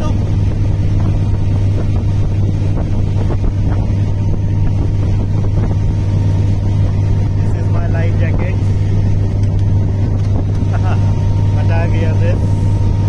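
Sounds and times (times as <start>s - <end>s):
motorboat engine humming: 0.0s - 13.0s
wind buffeting microphone: 0.0s - 13.0s.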